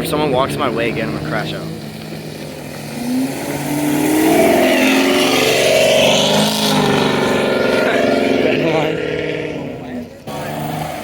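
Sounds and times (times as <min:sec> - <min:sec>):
car accelerating hard: 0:00.0 - 0:11.0.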